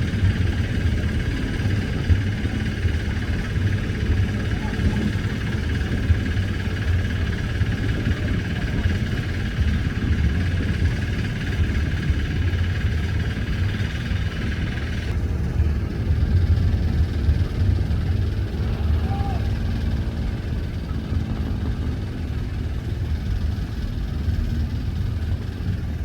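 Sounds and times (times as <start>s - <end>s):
boat engines rumbling: 0.0s - 26.0s.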